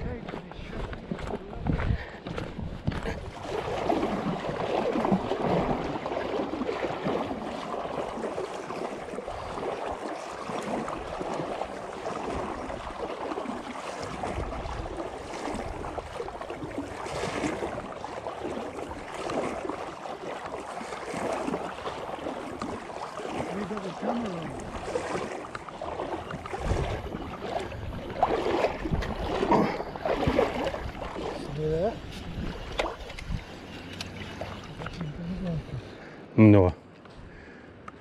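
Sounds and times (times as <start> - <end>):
water sloshing around wading legs: 0.0 - 36.2.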